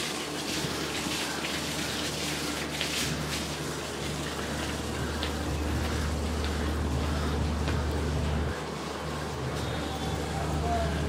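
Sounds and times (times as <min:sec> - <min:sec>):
low steady hum: 0:00.0 - 0:11.0
steady rushing noise: 0:00.0 - 0:11.0.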